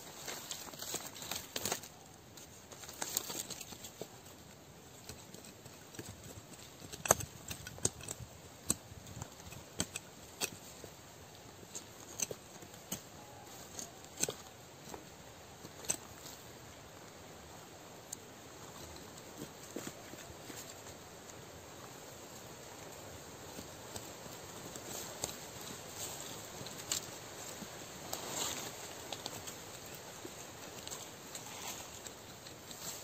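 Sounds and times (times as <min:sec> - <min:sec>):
fingers scraping in soil and leaves: 0:00.0 - 0:16.8, 0:18.0 - 0:33.0.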